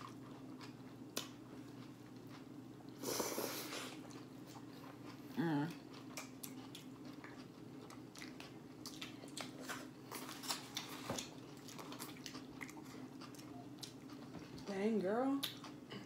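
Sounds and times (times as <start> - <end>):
chewing and biting food: 0.0 - 3.0, 3.9 - 14.7, 15.4 - 16.0
faint steady hum: 0.0 - 16.0.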